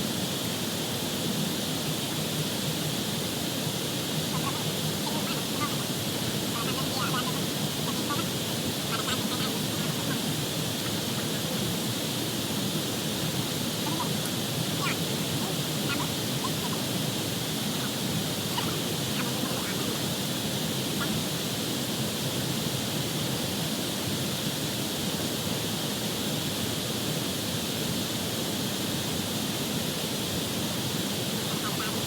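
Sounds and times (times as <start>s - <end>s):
constant high hiss: 0.0s - 32.0s.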